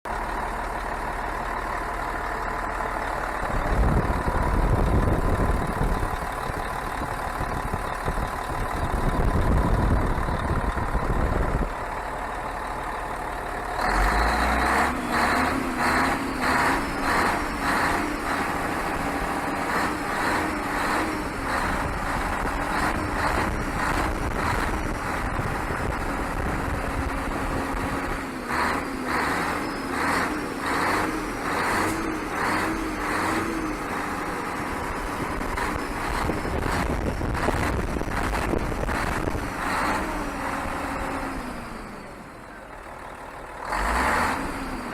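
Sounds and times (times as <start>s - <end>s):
truck diesel engine revving and droning: 0.1s - 44.9s.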